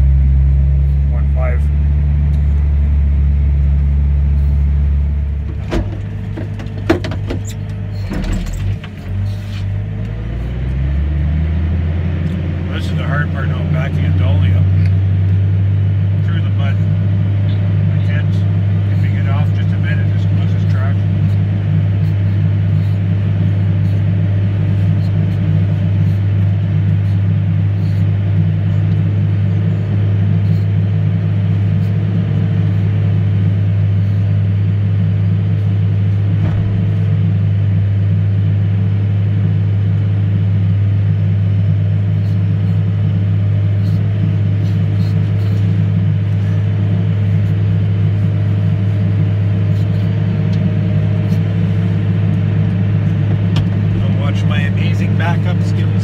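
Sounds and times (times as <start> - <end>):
farm vehicle engine drone: 0.0 - 56.0.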